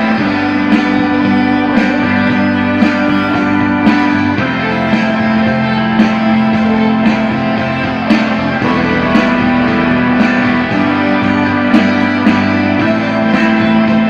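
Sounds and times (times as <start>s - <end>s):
drum beat: 0.0s - 14.0s
electric guitar: 0.0s - 14.0s.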